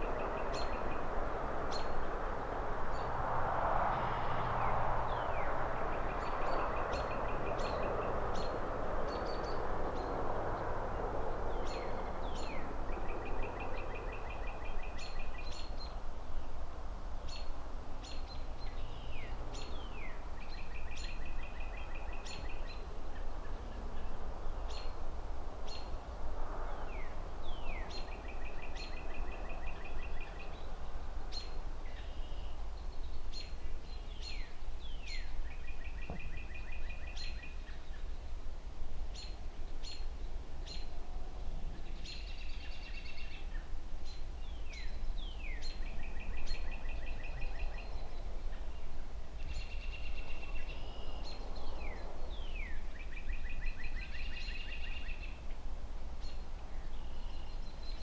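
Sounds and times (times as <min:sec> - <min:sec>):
songbirds calling: 0:00.0 - 0:16.6, 0:17.2 - 0:26.0, 0:26.7 - 0:38.4, 0:39.1 - 0:58.0
city traffic rumble: 0:00.0 - 0:58.0.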